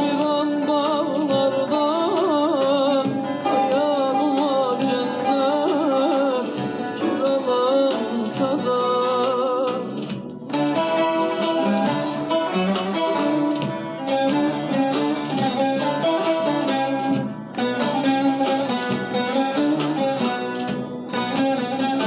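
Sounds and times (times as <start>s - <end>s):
long-necked lute strumming: 0.0s - 22.0s.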